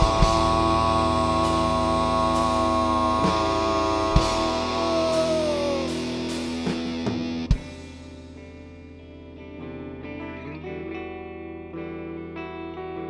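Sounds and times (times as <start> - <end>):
electric guitar and bass chord: 0.0 - 13.0.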